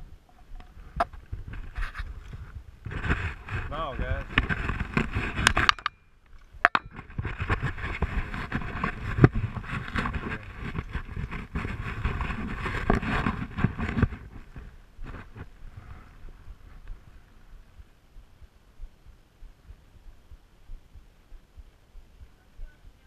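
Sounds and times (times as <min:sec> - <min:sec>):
rustling against microphone: 0:00.0 - 0:23.0.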